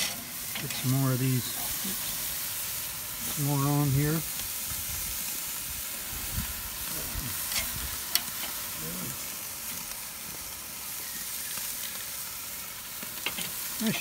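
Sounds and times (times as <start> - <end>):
meat sizzling on charcoal grill: 0.0 - 14.0.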